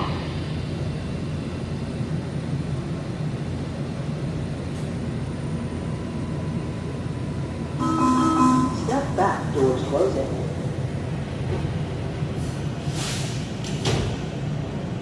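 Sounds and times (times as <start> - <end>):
train car rumble and hiss: 0.0 - 15.0.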